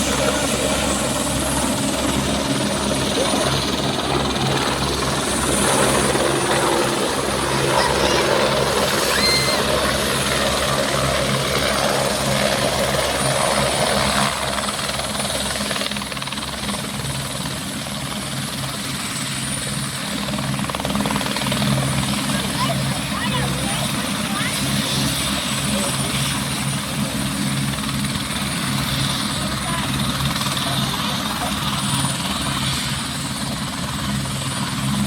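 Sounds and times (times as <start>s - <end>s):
helicopter rotor chopping: 0.0s - 35.0s.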